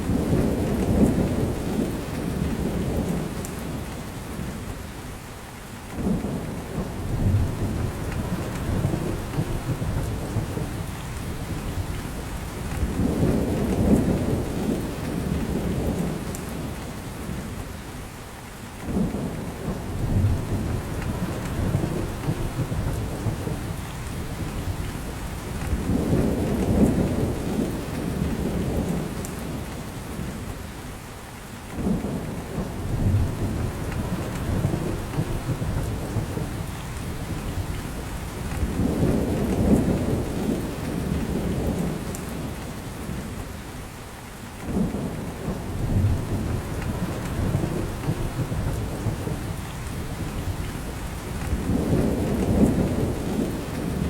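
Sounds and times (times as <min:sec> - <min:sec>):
rain pattering on branches: 0:07.4 - 0:17.7, 0:18.4 - 0:30.6, 0:31.3 - 0:54.0.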